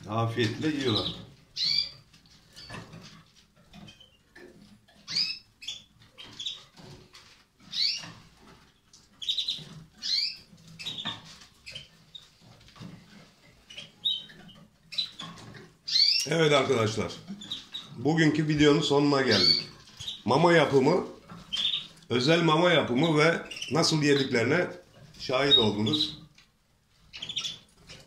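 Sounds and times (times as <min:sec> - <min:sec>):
canaries chirping: 0:00.0 - 0:28.0.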